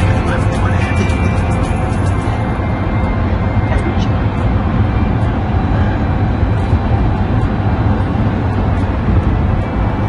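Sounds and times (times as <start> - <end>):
loud low rumble: 0.0 - 10.0.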